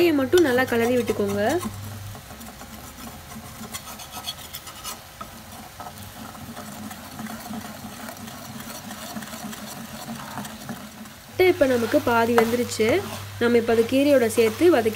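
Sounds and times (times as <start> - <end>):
eggs sizzling in oil: 0.0 - 14.9
spatula scraping a metal pan: 0.0 - 14.9.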